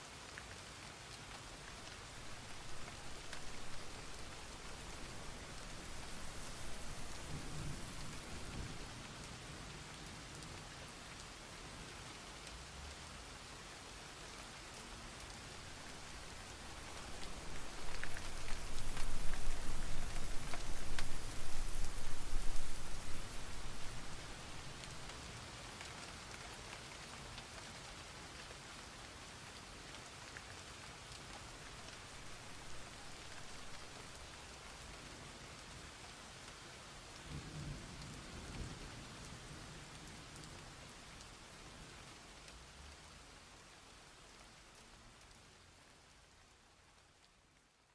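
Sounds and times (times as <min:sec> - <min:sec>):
rain falling on water: 0:00.0 - 0:47.9.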